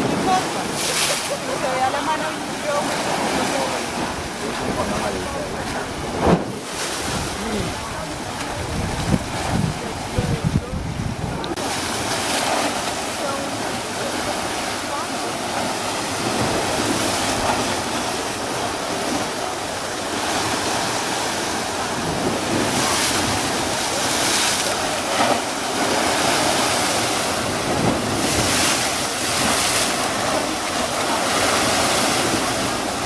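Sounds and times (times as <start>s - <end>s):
sea surf breaking: 0.0s - 33.0s.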